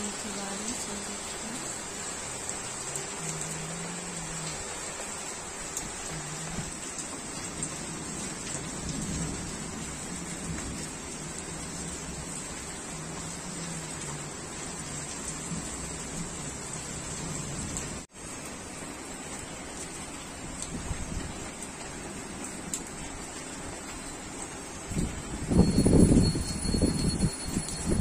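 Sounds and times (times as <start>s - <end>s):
rain falling on rooftops: 0.0s - 28.0s.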